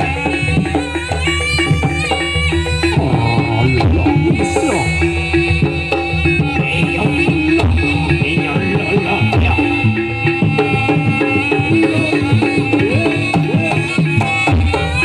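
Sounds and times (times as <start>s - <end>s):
hand drums: 0.0s - 15.0s
held pitched tones: 0.0s - 15.0s.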